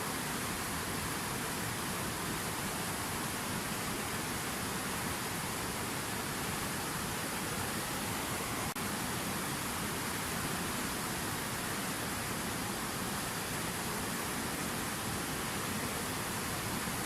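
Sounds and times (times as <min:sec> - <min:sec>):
fountain water falling: 0:00.0 - 0:17.0.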